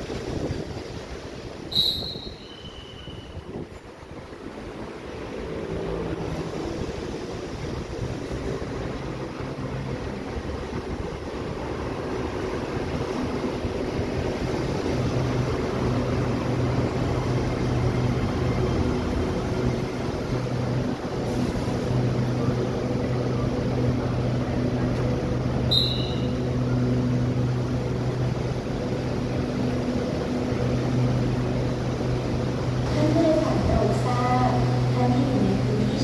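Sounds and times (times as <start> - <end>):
train equipment humming: 0.1 - 36.0.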